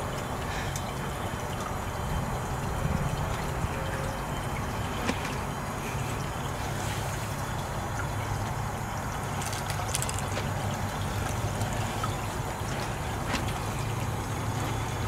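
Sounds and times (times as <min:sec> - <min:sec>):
pump humming: 0:00.0 - 0:15.0
water running and trickling: 0:00.0 - 0:15.0.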